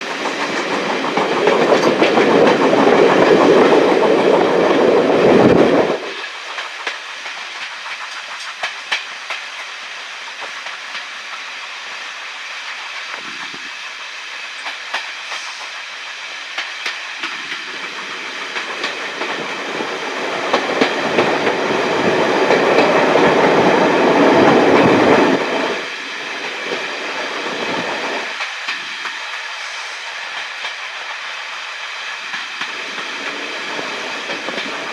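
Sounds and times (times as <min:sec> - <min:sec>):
train rushing noise: 0:00.0 - 0:34.9
train wheels clicking over track: 0:00.0 - 0:34.9.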